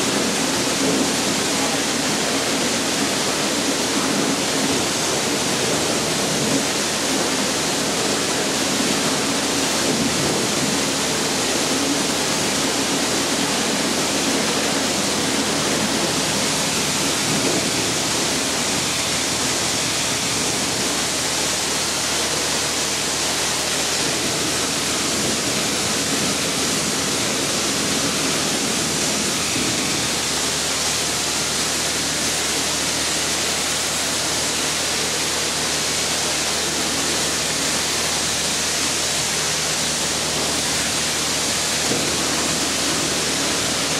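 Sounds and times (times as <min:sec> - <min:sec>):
pressure washer spray hissing: 0:00.0 - 0:43.9.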